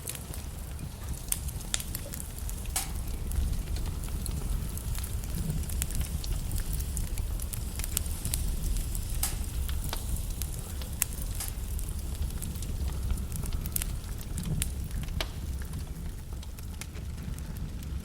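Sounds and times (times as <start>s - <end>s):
logs crackling in fireplace: 0.0s - 18.0s
low fire rumble: 0.0s - 18.0s.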